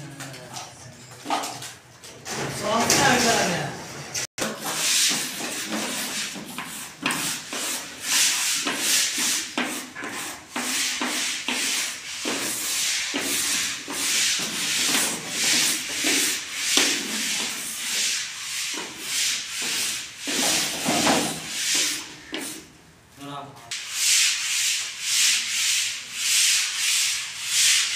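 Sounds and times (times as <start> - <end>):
sandpaper rasping on plaster: 4.4 - 22.7, 23.8 - 27.9.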